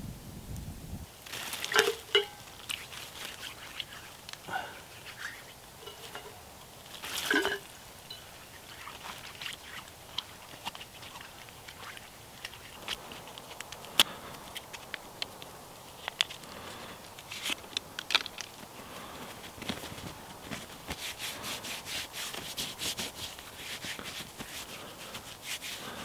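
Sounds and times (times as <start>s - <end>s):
rustling in dry leaves: 0.0s - 26.0s.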